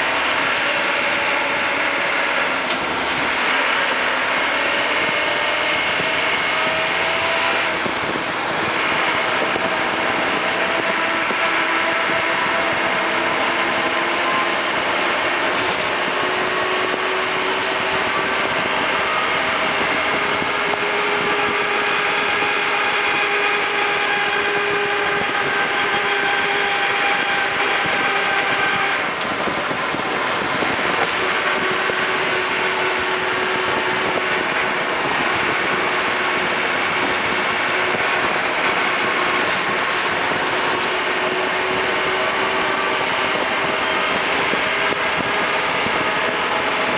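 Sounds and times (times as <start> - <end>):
vehicle running with whining tones: 0.0 - 46.9.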